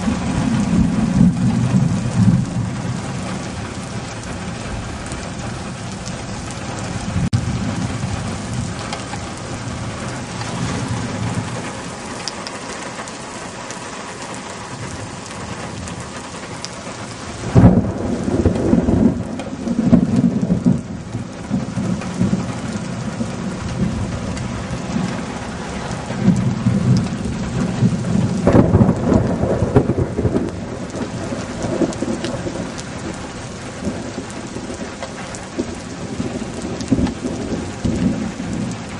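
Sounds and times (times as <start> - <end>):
steady rain falling: 0.0 - 38.9
thunderclaps rumbling: 0.0 - 38.9.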